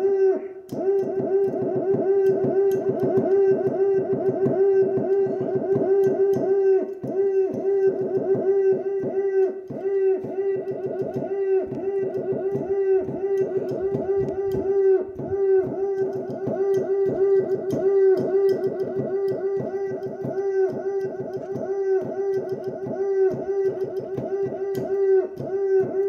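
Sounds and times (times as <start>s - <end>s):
man imitating monkey calls: 0.0s - 26.0s.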